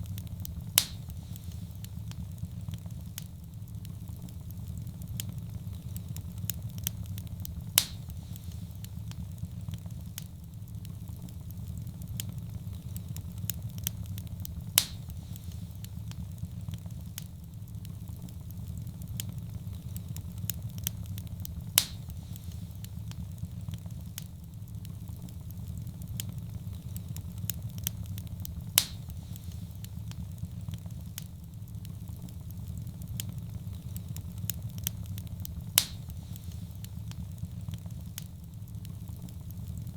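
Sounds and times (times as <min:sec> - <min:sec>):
fire crackling: 0:00.0 - 0:39.9
loud fire pops: 0:00.0 - 0:39.9
low flame rumble: 0:00.0 - 0:39.9.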